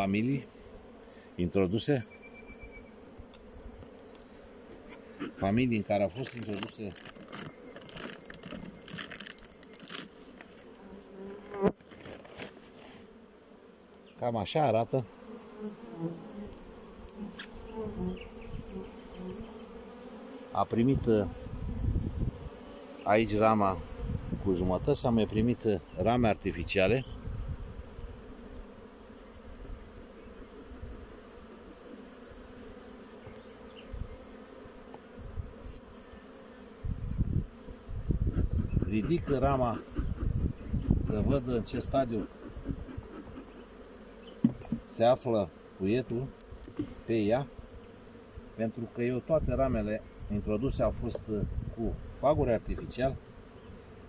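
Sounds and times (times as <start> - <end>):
honeybees humming: 0.0 - 54.0
loud close bee buzz: 0.0 - 54.0.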